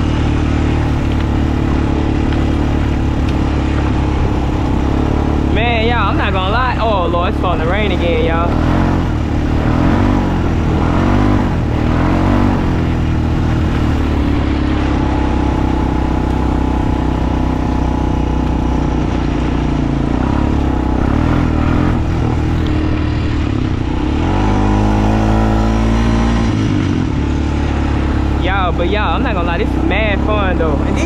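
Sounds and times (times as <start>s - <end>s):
atv engine running under load: 0.0s - 31.0s.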